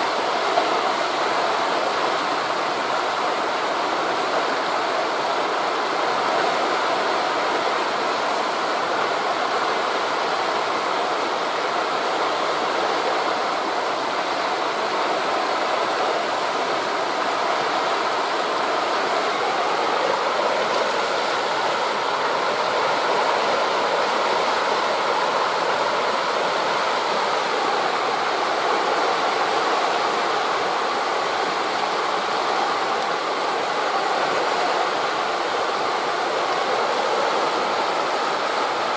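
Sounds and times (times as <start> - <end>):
waves on a beach: 0.0 - 38.9
wind through forest leaves: 0.0 - 38.9.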